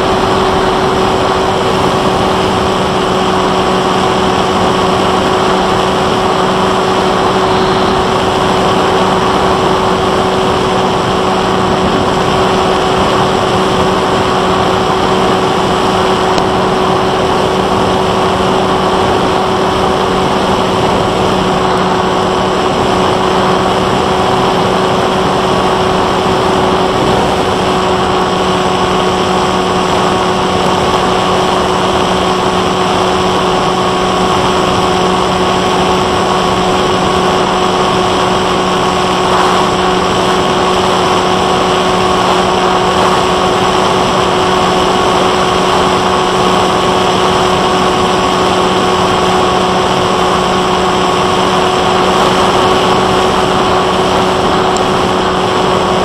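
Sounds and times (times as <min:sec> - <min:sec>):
electric motor whine: 0:00.0 - 0:56.0
rushing air: 0:00.0 - 0:56.0.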